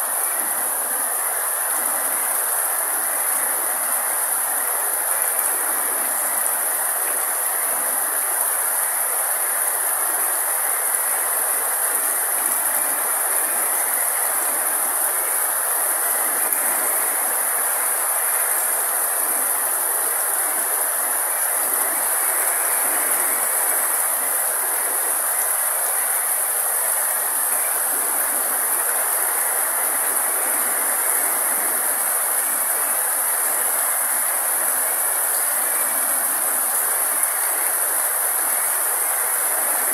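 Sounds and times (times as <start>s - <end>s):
constant high-pitched hiss: 0.0s - 39.9s
rain falling on leaves: 0.0s - 39.9s.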